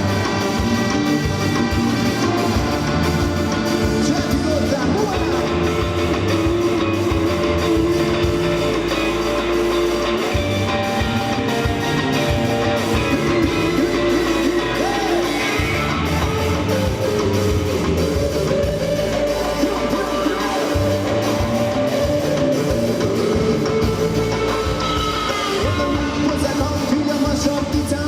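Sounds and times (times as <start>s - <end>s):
live ska band playing: 0.0s - 28.0s
person singing: 1.5s - 11.0s, 12.2s - 28.0s.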